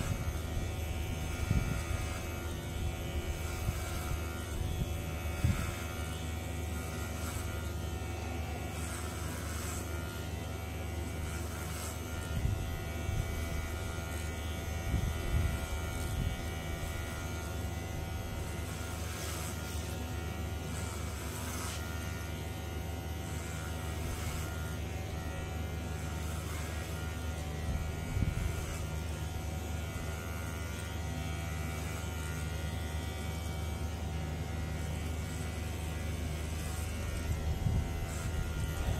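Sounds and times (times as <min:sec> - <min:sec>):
hair clipper buzzing: 0:00.0 - 0:38.9.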